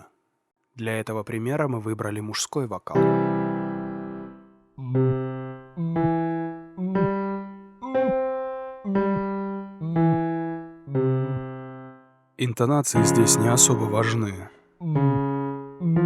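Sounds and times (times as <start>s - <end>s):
piano chords ringing out: 3.0s - 16.0s.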